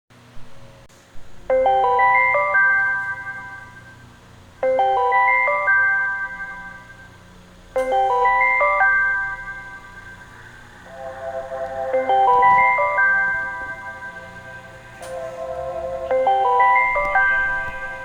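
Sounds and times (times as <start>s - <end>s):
phone ringtone melody: 1.5s - 18.0s.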